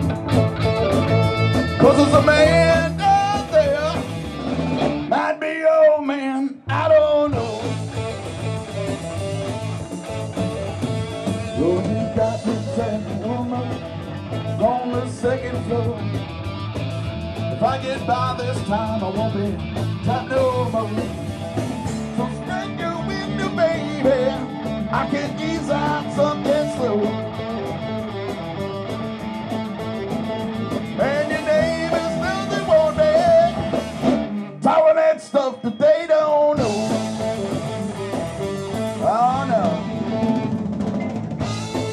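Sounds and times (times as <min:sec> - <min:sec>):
electric guitar: 0:00.0 - 0:41.9
live rock band playing: 0:00.0 - 0:41.9.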